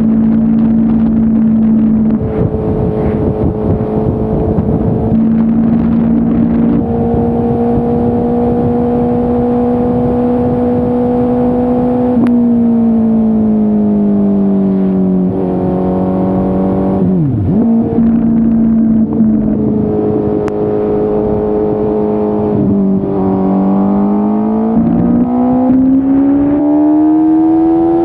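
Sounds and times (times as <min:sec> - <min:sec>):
motorcycle engine running: 0:00.0 - 0:26.5.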